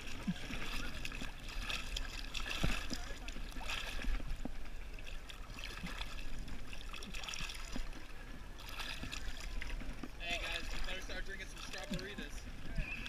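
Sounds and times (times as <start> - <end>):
river water lapping: 0.0 - 13.0
small water splashes: 0.0 - 13.0.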